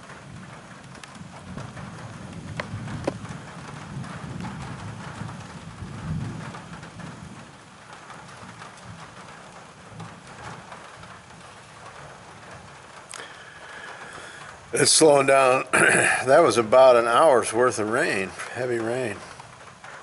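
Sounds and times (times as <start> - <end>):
heavy rain drumming on a roof: 0.0 - 20.0.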